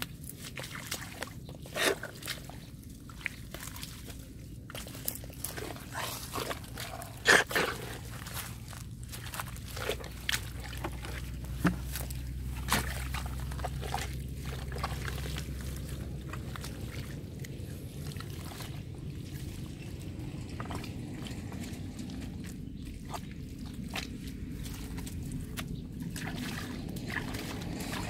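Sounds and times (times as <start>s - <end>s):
wet mud squelching: 0.0s - 28.0s
low rumble: 4.0s - 28.0s.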